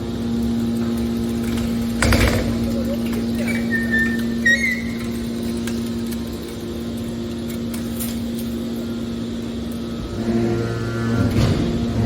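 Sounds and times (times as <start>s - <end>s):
baler machinery humming: 0.0s - 12.0s.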